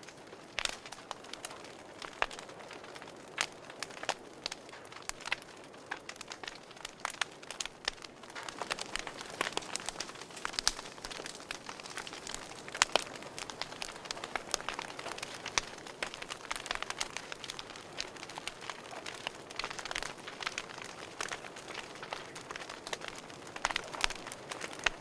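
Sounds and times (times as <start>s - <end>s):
loud fire snaps: 0.0s - 25.0s
soft steady hiss: 0.0s - 25.0s
wood fire crackling: 0.0s - 25.0s.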